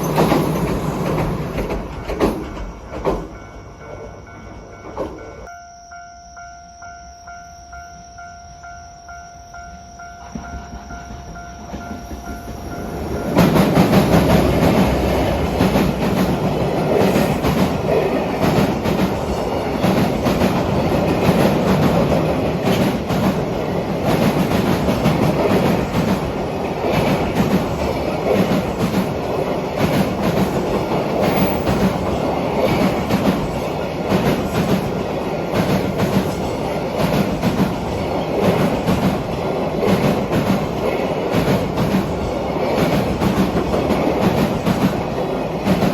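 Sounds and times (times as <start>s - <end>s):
train wheels clattering: 0.0s - 3.6s, 10.2s - 45.9s.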